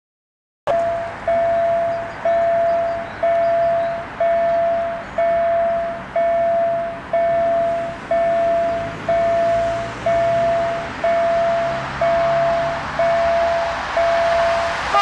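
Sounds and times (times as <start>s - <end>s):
level crossing bell ringing: 0.7s - 15.0s.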